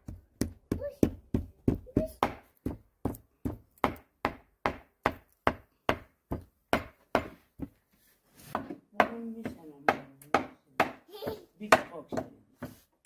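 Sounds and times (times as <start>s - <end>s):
knife chopping on wooden board: 0.0s - 7.8s, 8.4s - 12.8s.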